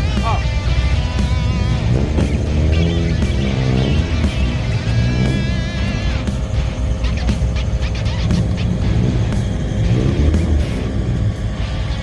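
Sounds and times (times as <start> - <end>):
bass-heavy music with gliding tones: 0.0 - 12.0.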